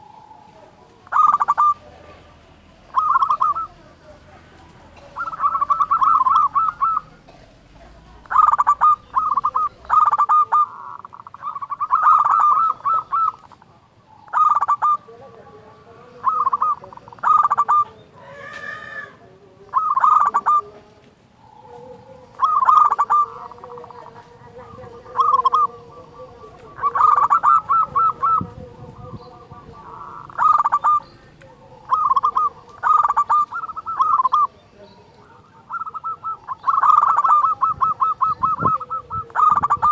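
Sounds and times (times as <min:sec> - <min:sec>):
doves cooing: 0:00.0 - 0:39.9
soft low drawn-out coo: 0:00.0 - 0:39.9.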